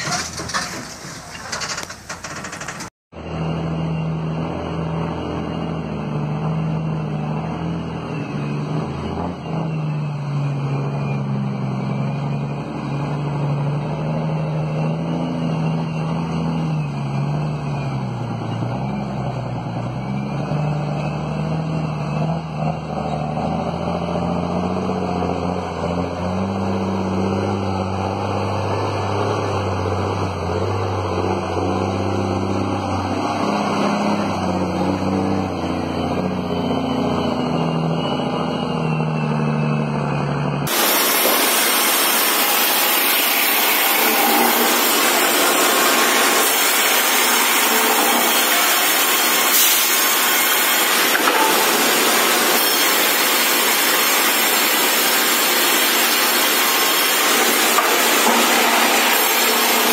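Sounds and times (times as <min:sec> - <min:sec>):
diesel truck engine labouring: 0:00.0 - 0:59.9.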